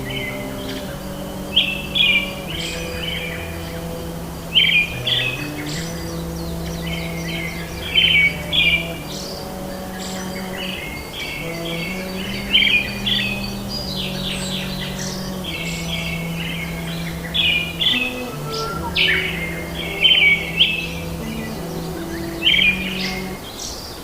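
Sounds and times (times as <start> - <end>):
soft music of low notes: 0.0 - 23.8
birds chirping and twittering: 0.0 - 24.0.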